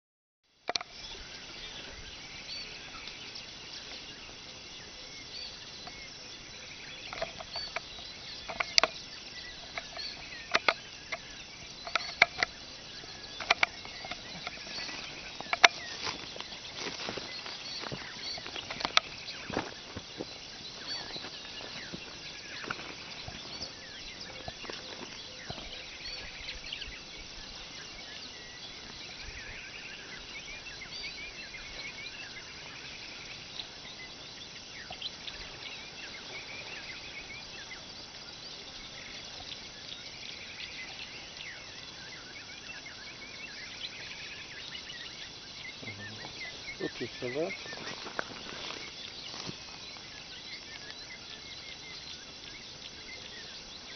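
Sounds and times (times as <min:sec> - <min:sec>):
birds chirping: 0:00.5 - 0:53.9
steady background noise: 0:00.6 - 0:53.9.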